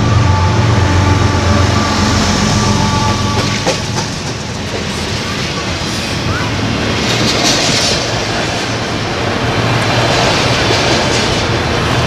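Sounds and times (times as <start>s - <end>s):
locomotive engine drone: 0.0s - 12.0s
train cars rumbling on rails: 0.0s - 12.0s.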